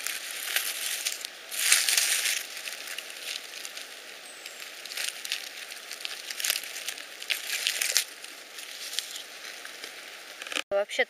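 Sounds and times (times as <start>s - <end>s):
moss and dry leaves rustling: 0.0s - 10.6s.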